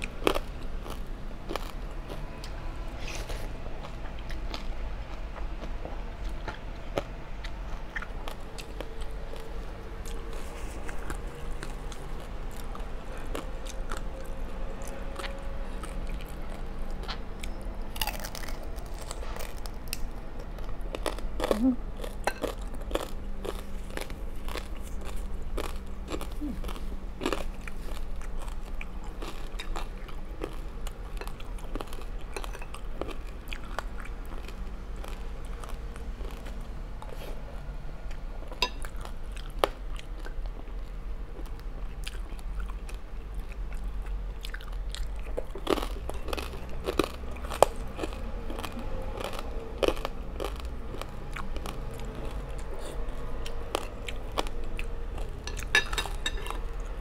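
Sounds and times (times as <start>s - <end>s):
crunching of crispy pork crackling: 0.0s - 2.4s, 3.1s - 37.3s, 38.1s - 57.0s
wet chewing of noodles: 0.0s - 57.0s.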